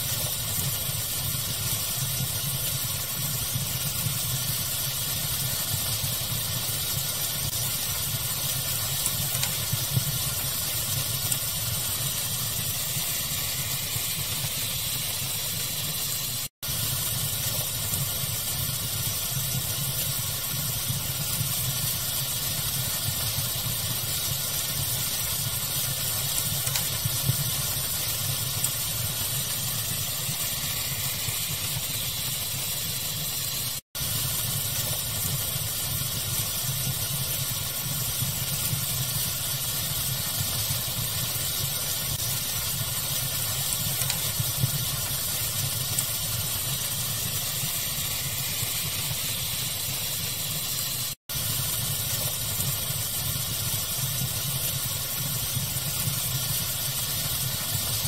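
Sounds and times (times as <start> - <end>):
fire crackling: 0.0 - 58.0
steady hiss: 0.0 - 58.0.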